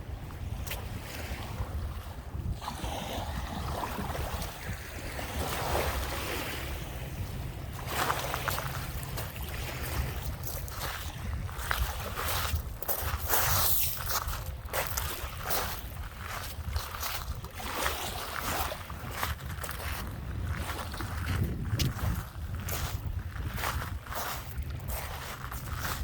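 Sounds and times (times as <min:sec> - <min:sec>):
wind buffeting microphone: 0:00.0 - 0:26.0
lake waves washing onto shore: 0:00.1 - 0:26.0.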